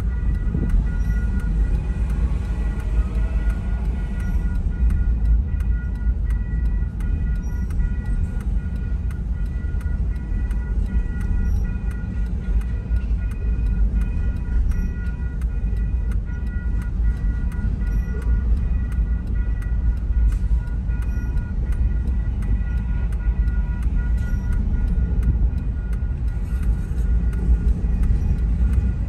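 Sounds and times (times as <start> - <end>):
crossing bell ringing: 0.0 - 29.0
freight train rumbling: 0.0 - 29.0.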